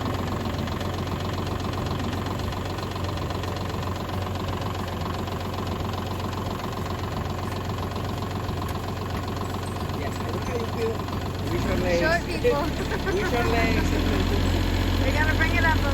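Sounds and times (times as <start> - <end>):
tractor diesel engine idling: 0.0 - 15.9.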